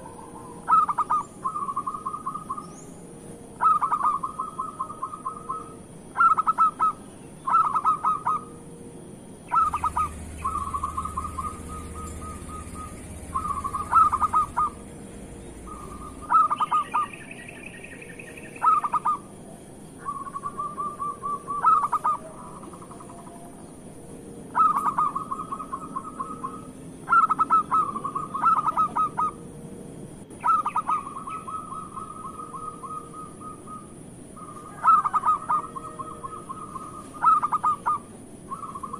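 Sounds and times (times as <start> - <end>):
higher bird call: 0.0 - 3.0, 3.6 - 8.6, 9.5 - 19.3, 20.0 - 23.6, 24.5 - 29.4, 30.4 - 38.9
dove cooing: 0.0 - 8.7, 9.4 - 29.6, 30.3 - 38.9.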